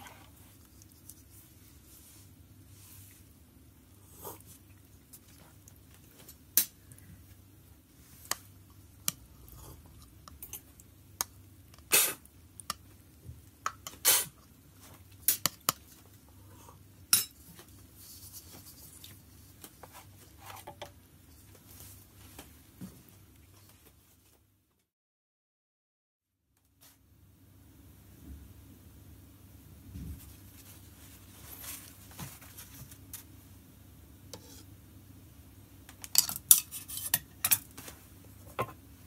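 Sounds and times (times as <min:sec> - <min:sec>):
low steady hum: 0:00.0 - 0:24.4, 0:26.6 - 0:39.0.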